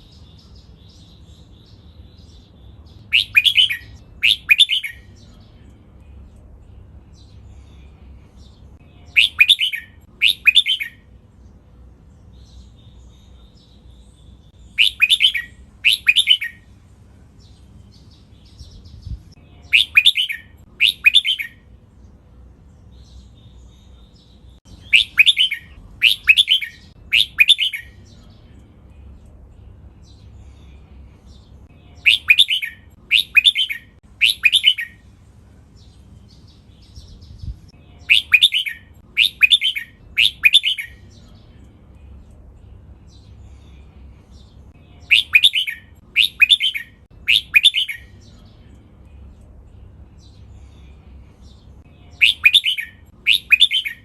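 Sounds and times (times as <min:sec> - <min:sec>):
bulbul singing song phrases: 0:00.0 - 0:54.0.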